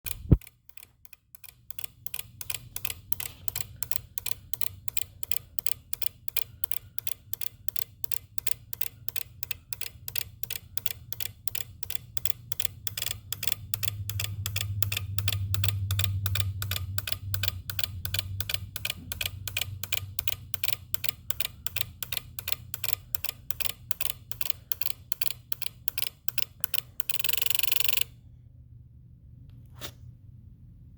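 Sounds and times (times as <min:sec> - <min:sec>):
rapid clicking: 0:00.0 - 0:28.1
low steady hum: 0:00.1 - 0:30.9.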